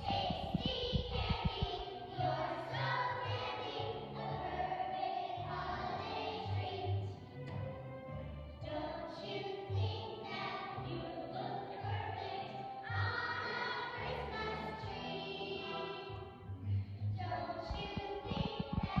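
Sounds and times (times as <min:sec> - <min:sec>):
young children singing a carol: 0:00.0 - 0:07.7, 0:08.6 - 0:16.4, 0:17.1 - 0:19.0.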